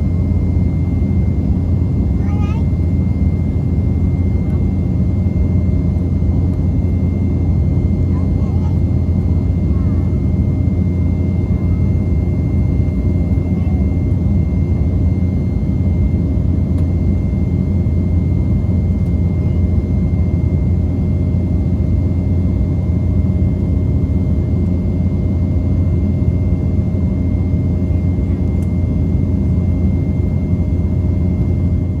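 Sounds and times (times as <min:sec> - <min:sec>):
airliner cabin engine drone: 0:00.0 - 0:32.0.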